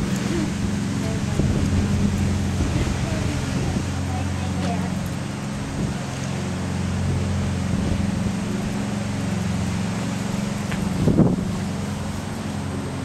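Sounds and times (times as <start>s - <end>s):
steady low machine hum: 0.0s - 13.0s.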